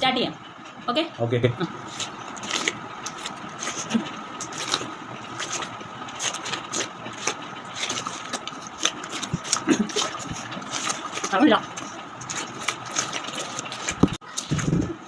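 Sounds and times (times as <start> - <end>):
steady hum: 0.0 - 15.0
crunchy wet bites and chewing: 1.8 - 14.8.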